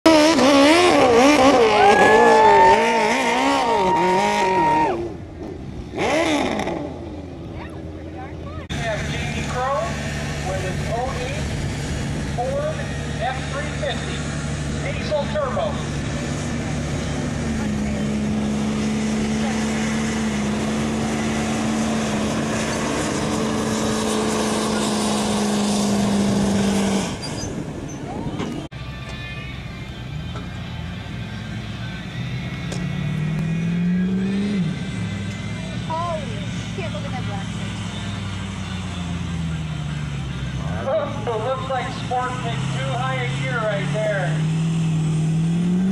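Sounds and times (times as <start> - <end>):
diesel truck engine under load: 0.0 - 45.9.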